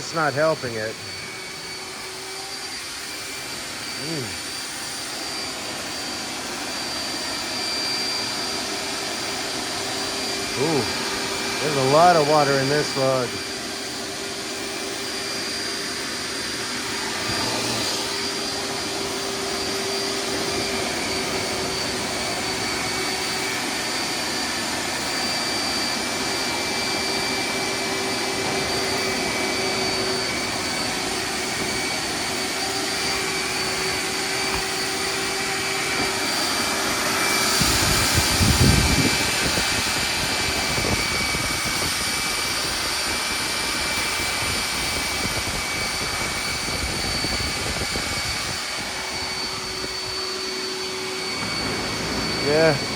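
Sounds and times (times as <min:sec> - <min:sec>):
wet vacuum whining: 0:00.0 - 0:52.9.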